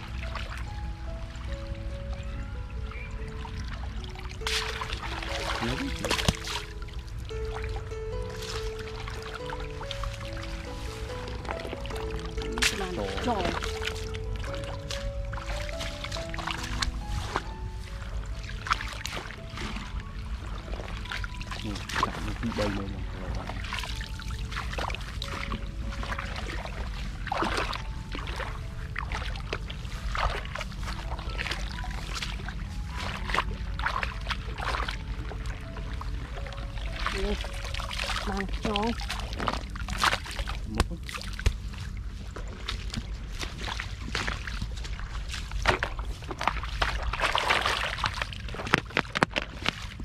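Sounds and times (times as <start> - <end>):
water splashing and pouring: 0.0 - 2.3, 3.2 - 50.0
water streaming through basket: 2.9 - 50.0.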